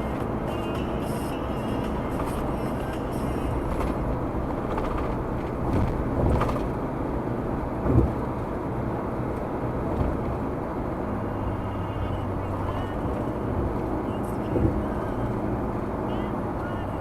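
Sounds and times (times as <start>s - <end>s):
car engine rumble: 0.0s - 17.0s
road and tyre noise: 0.0s - 17.0s.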